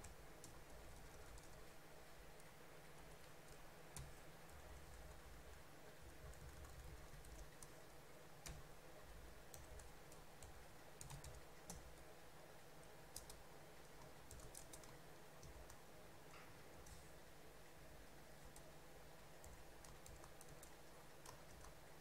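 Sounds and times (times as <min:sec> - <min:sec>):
faint keyboard typing: 0:00.0 - 0:17.2, 0:18.0 - 0:22.0.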